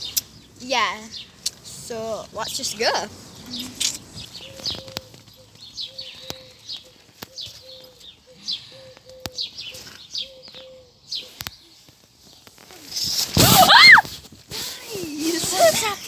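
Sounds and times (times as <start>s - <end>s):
small birds chirping: 0.0s - 13.4s.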